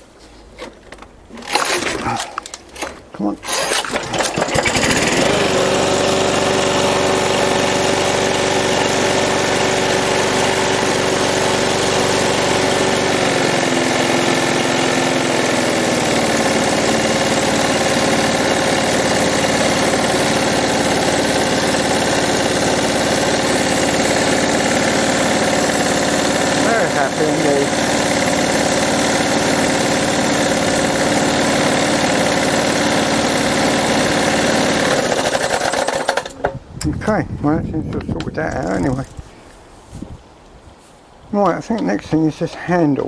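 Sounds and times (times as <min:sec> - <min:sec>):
lawn mower engine running: 0:01.4 - 0:36.5.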